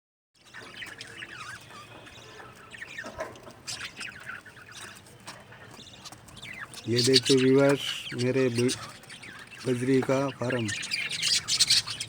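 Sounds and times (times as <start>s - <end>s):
budgerigars chirping and chattering: 0.4s - 12.0s.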